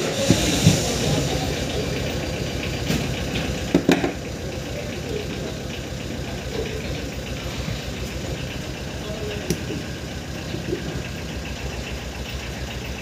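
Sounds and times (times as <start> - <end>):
low machine running: 0.0 - 13.0.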